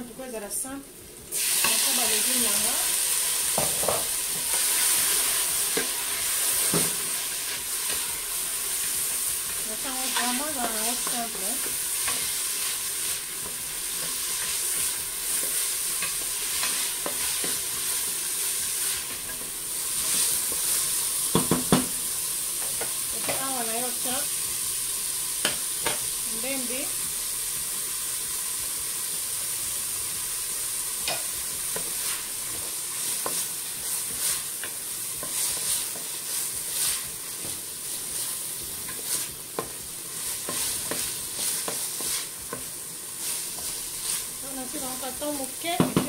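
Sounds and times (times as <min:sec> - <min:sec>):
vegetables sizzling in hot oil: 0:00.0 - 0:46.0.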